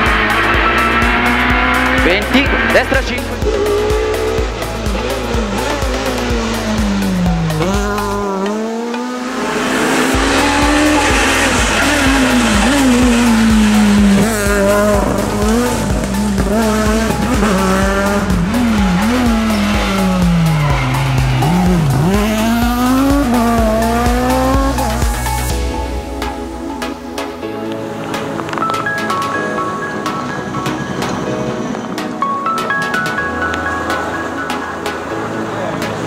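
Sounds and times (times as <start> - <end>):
rally car engine revving: 0.0 - 25.5, 28.0 - 32.2
background music with beat: 0.0 - 36.0.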